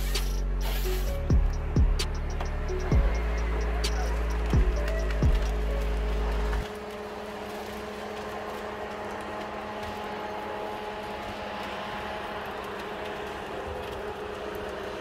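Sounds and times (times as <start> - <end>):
heavy machine engine humming: 0.0 - 15.0.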